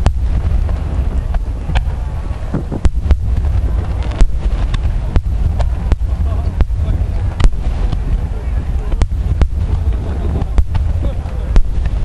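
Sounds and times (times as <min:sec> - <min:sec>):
fireworks cracks and bangs: 0:00.0 - 0:12.0
low rumble: 0:00.0 - 0:12.0
wind buffeting microphone: 0:00.0 - 0:12.0.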